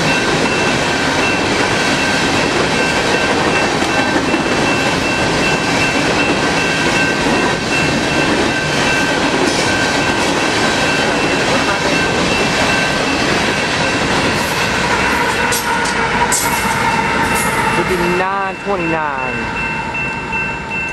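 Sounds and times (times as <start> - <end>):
high ringing tone: 0.0 - 15.6, 16.4 - 20.9
train wheels rumbling and rattling: 0.0 - 20.9.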